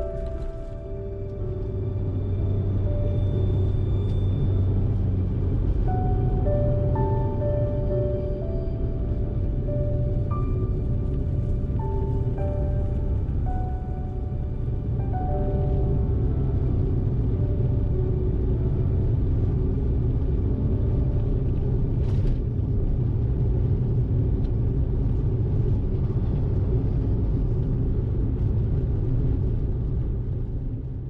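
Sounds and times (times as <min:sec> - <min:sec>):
car engine rumble: 0:00.0 - 0:31.0
road noise: 0:00.0 - 0:31.0.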